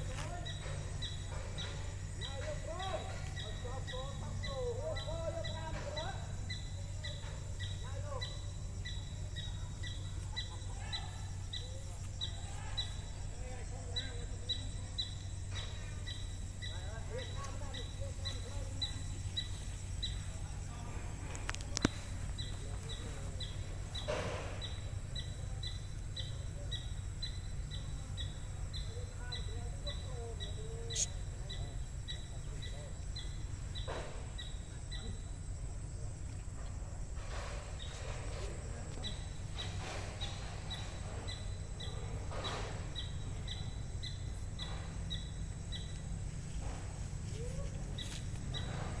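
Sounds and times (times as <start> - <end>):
bird chirping: 0.0 - 35.4, 37.3 - 49.0
low outdoor rumble: 0.0 - 49.0.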